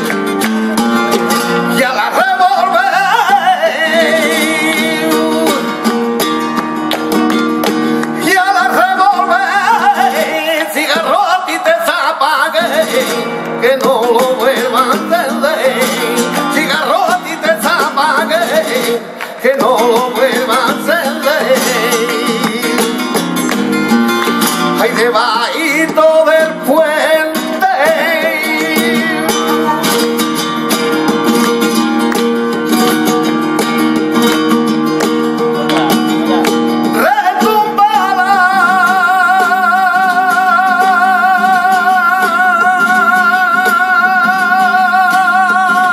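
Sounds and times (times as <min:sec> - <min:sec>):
rhythmic handclaps: 0:00.0 - 0:11.2, 0:13.4 - 0:26.5, 0:27.8 - 0:44.5
flamenco guitar: 0:00.0 - 0:45.9
man singing flamenco: 0:00.0 - 0:45.9.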